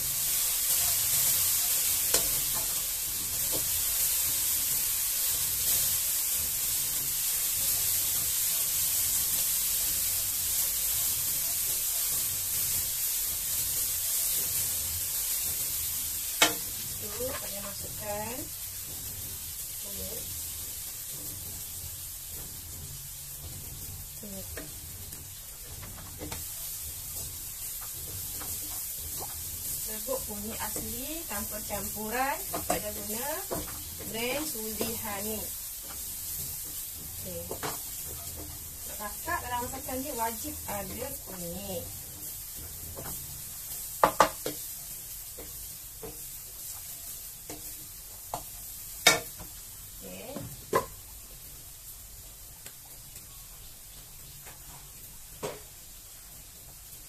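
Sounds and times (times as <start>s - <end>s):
wooden spatula scraping a wok: 0.0s - 51.5s
chili paste sizzling in a wok: 0.0s - 57.0s.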